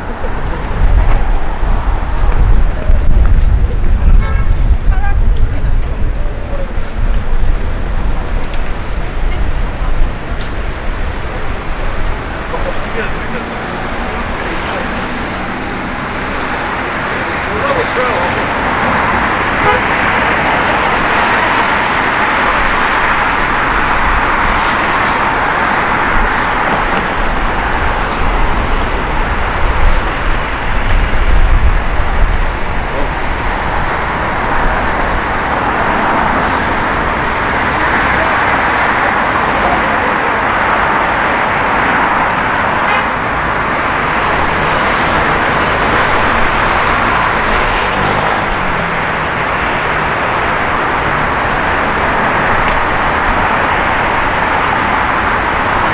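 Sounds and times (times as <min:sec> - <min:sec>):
city street traffic: 0:00.0 - 0:55.9.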